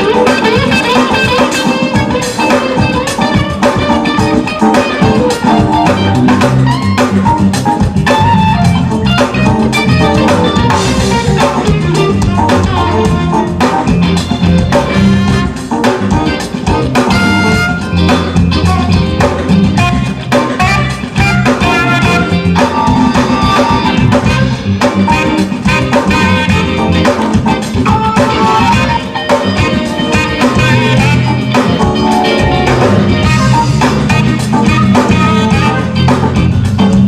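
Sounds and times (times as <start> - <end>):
bass line: 0.0 - 37.0
drum kit beat: 0.0 - 37.0
guitar: 0.0 - 37.0
keyboard: 0.0 - 37.0.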